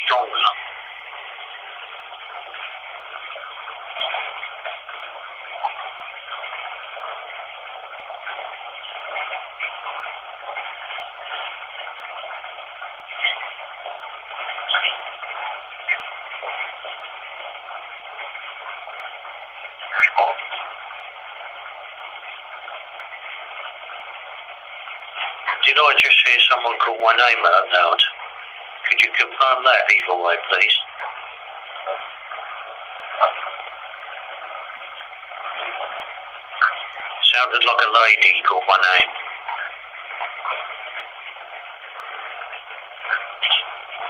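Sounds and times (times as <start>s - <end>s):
running water rushing: 0.0s - 44.0s
faint clicks: 1.8s - 44.0s.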